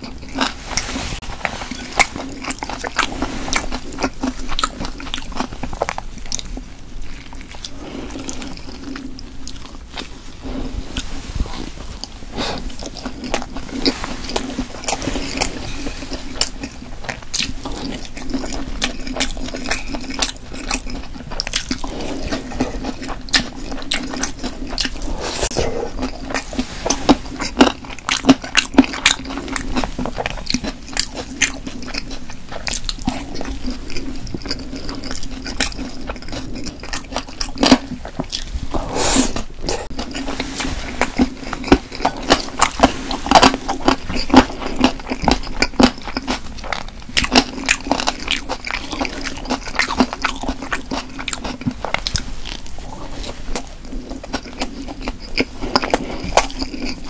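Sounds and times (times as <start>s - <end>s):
crunchy chewing: 0.0s - 57.0s
wet mouth sounds: 0.0s - 57.0s.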